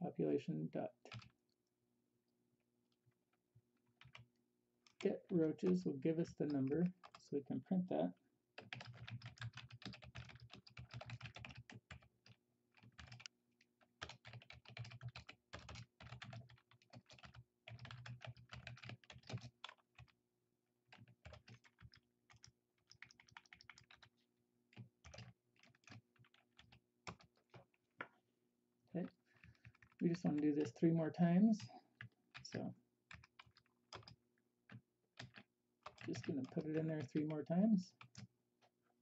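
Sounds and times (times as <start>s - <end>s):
faint keyboard typing: 1.1s - 1.4s, 3.9s - 7.7s, 8.6s - 20.2s, 20.9s - 28.2s, 29.0s - 38.8s.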